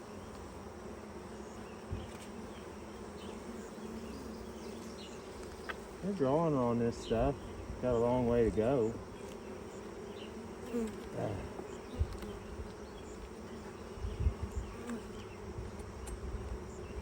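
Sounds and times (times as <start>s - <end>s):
honeybees buzzing: 0.0s - 17.0s
single bees passing close: 0.0s - 17.0s.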